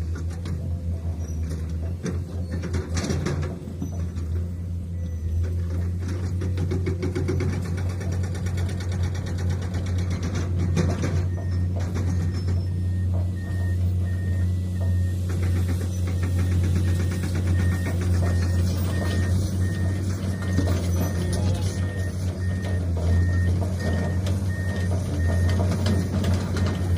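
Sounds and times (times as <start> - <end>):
diesel construction machinery running: 0.0 - 26.9.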